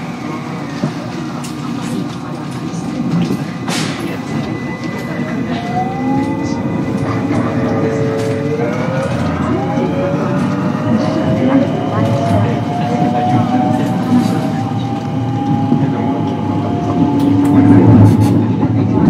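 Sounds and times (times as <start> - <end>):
train rolling noise: 0.0 - 19.0.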